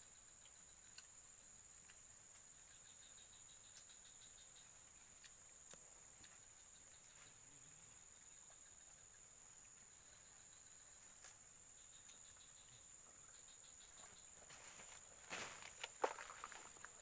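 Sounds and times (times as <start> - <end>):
insects chirring: 0.0 - 17.0
pulsing insect chirps: 0.0 - 17.0
rustle: 0.0 - 17.0.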